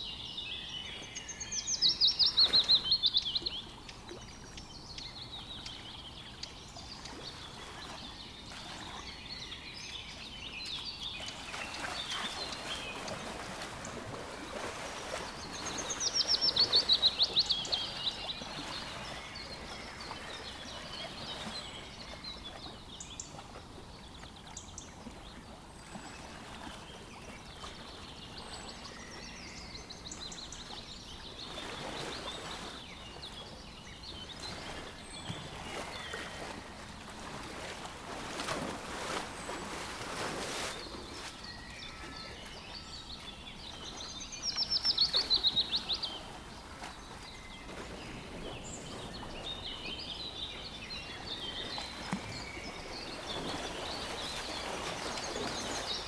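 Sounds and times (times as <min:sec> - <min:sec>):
wild birds chirping and singing: 0:00.0 - 0:36.8, 0:40.7 - 0:56.0.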